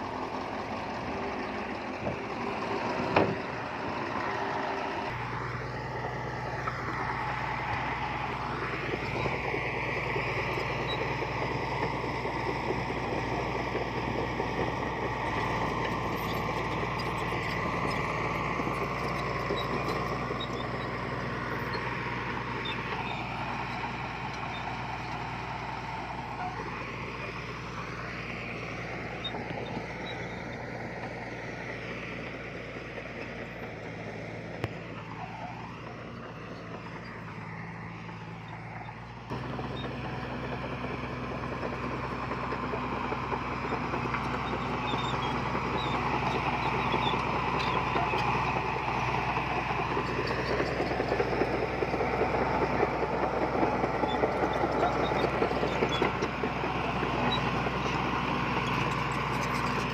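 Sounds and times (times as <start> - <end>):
diesel earthmover engine running: 0.0 - 59.9.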